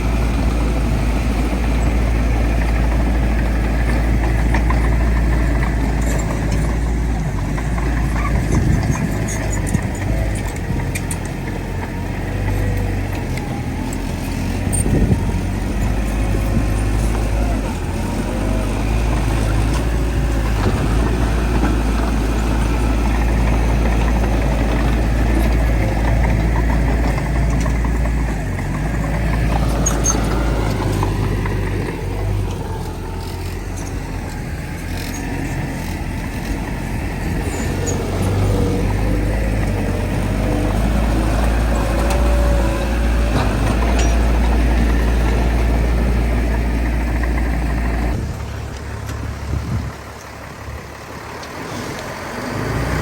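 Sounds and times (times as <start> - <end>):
heavy diesel engines droning: 0.0 - 53.0.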